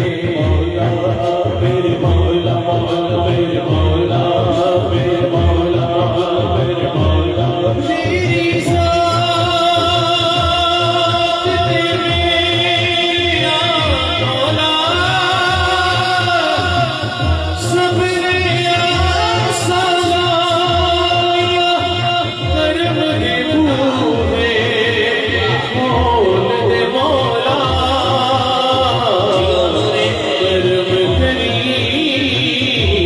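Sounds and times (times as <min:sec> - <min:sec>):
men singing devotional song: 0:00.0 - 0:33.0.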